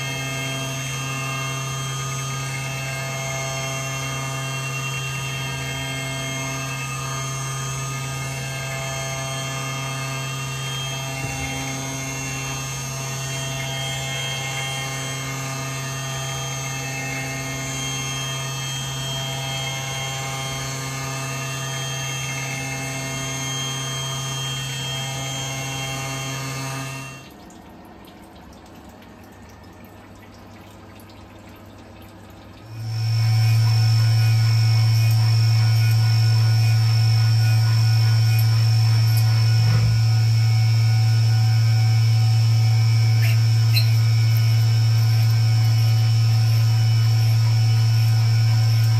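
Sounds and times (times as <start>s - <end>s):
milling machine spindle whine: 0.0s - 27.3s, 32.6s - 48.9s
coolant splashing: 0.0s - 48.9s
machine hum: 0.0s - 48.9s.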